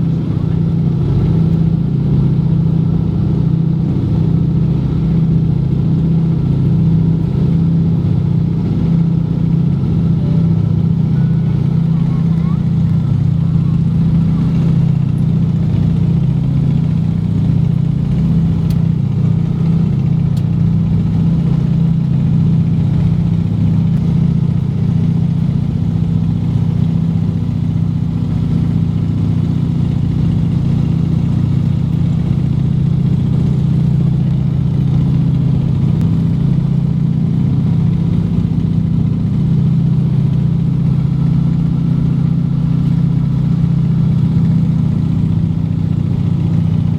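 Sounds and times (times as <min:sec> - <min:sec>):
aircraft engines droning: 0:00.0 - 0:46.9.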